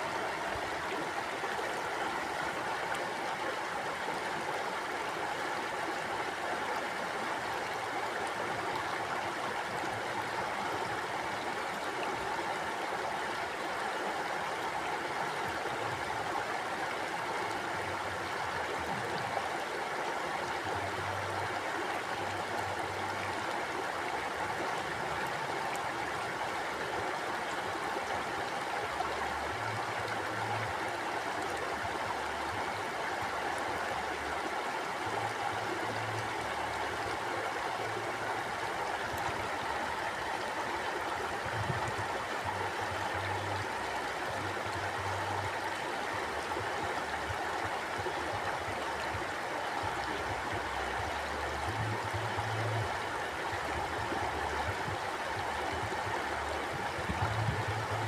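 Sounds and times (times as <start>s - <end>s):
stream running water: 0.0s - 58.0s.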